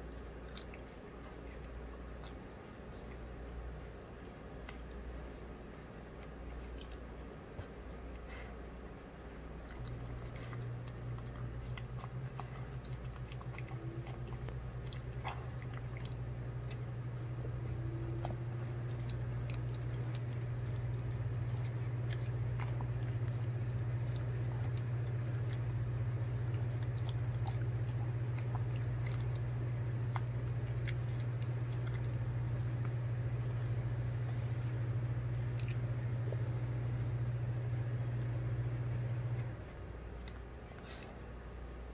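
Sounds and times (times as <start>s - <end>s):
dog chewing wet food: 0.0s - 7.8s, 9.6s - 41.6s
steady low hum: 0.0s - 41.9s.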